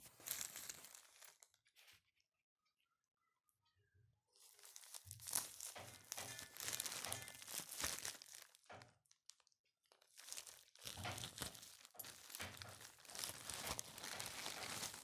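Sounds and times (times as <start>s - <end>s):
plastic mailer bag crinkling: 0.0s - 1.5s, 4.4s - 15.0s.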